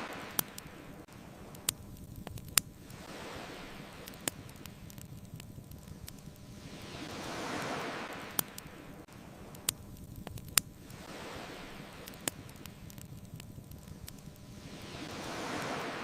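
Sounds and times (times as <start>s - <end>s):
wood fire crackling and popping: 0.0s - 15.9s
ocean waves washing onto shore: 0.0s - 16.0s.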